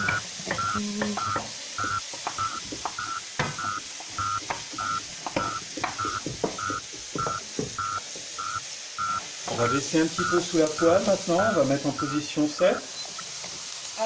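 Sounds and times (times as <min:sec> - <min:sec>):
short electronic beep: 0:00.0 - 0:13.0.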